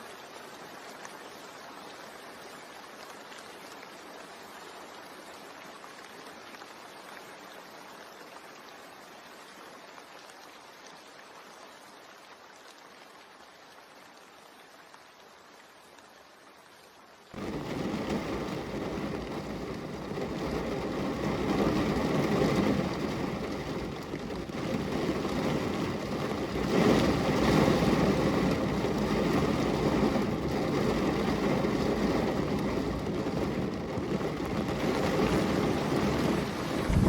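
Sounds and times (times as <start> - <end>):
heavy rain: 0.0 - 37.0.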